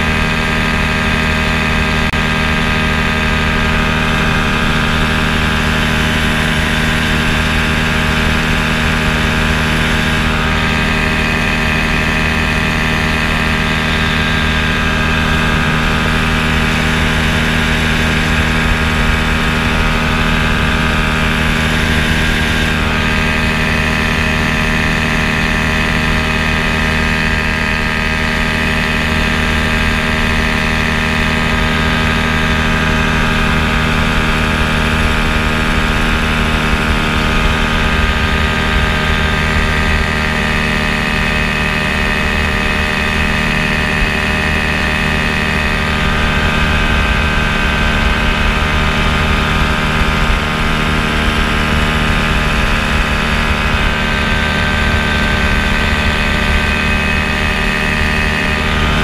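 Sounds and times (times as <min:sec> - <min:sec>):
ultralight aircraft engine drone: 0:00.0 - 0:59.0.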